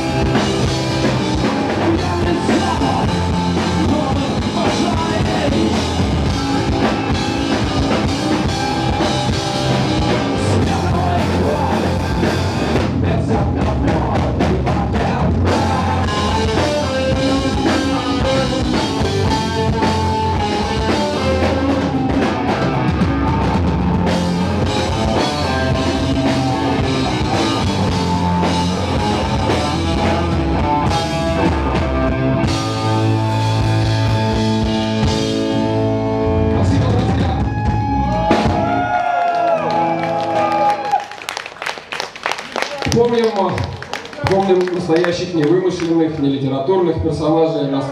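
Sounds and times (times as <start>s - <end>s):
drum kit beat: 0.0s - 40.9s
rock band playing live: 0.0s - 41.0s.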